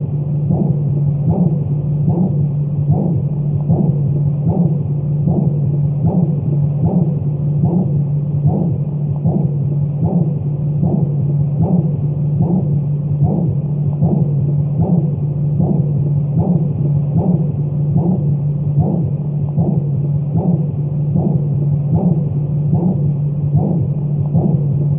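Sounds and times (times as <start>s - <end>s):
soft heartbeat: 0.0s - 24.9s
steady low hum: 0.0s - 24.9s.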